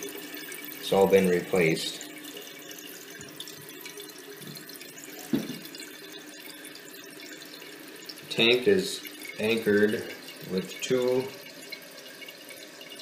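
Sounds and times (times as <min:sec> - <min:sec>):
water filling toilet tank: 0:00.0 - 0:13.0.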